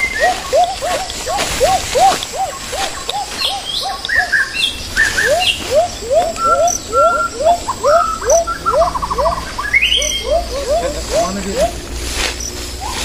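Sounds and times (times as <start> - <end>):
short hooting calls: 0.0 - 12.1
high chirps: 0.0 - 13.0.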